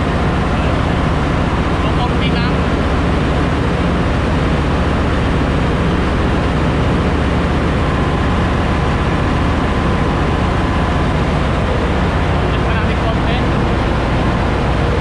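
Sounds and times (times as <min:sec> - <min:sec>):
engine room machinery drone: 0:00.0 - 0:15.0.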